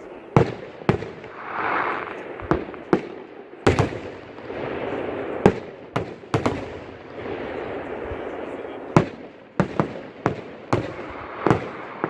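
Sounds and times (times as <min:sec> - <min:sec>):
background rush of noise: 0:00.0 - 0:12.0
fireworks bangs: 0:00.0 - 0:12.0.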